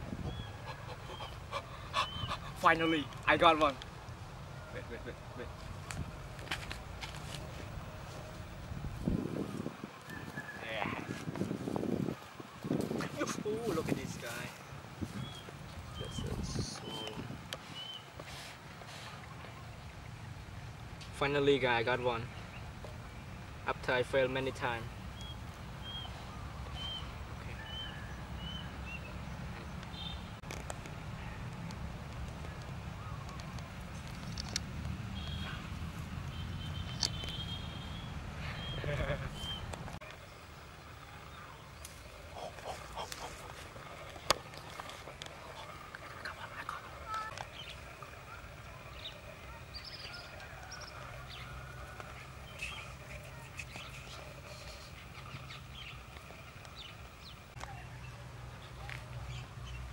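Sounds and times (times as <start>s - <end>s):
birds chirping: 0.0s - 5.5s, 9.0s - 18.3s, 19.0s - 59.9s.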